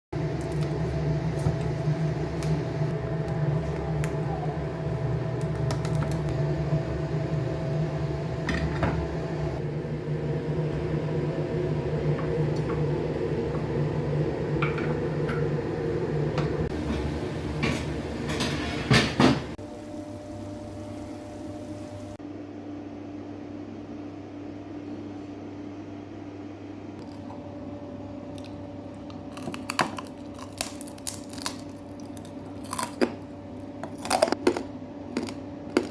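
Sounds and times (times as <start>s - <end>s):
appliance hum: 0.1s - 35.9s.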